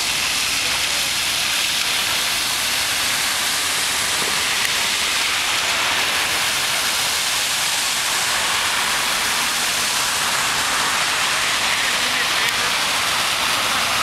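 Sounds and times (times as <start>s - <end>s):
cars wading through floodwater: 0.0s - 14.0s
rushing hiss of water: 0.0s - 14.0s.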